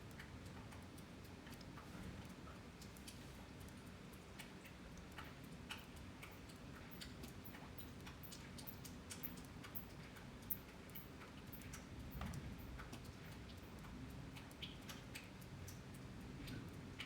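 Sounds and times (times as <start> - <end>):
raindrops ticking on hard surface: 0.0 - 17.0.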